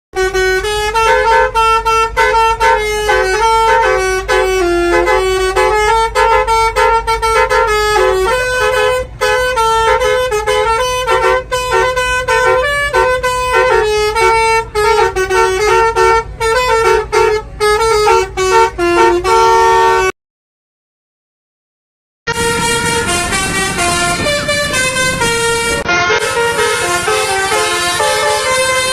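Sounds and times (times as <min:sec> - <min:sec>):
bus horn playing melody: 0:00.1 - 0:20.2, 0:22.3 - 0:28.9.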